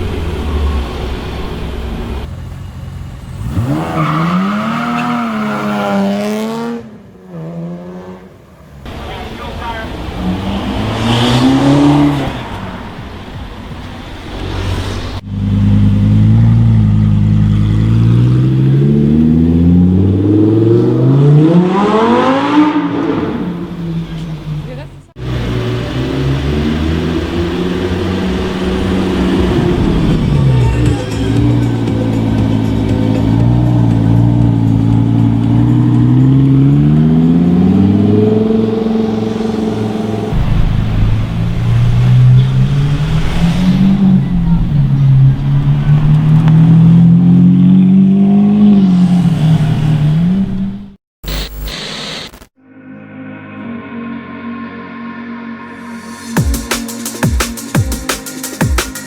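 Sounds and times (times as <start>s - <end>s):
supercar engine accelerating: 0.0s - 51.0s.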